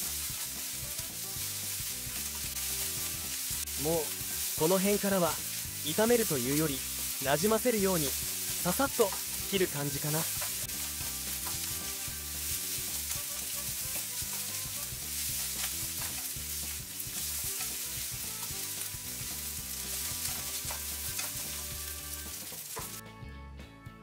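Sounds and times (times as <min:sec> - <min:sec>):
rice sizzling in a frying pan: 0:00.0 - 0:23.0
utensils scraping and tapping pan: 0:00.0 - 0:23.0.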